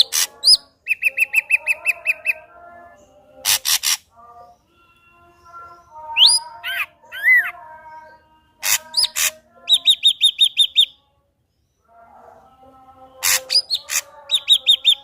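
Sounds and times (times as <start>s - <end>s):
bird singing varied song: 0.0s - 15.0s.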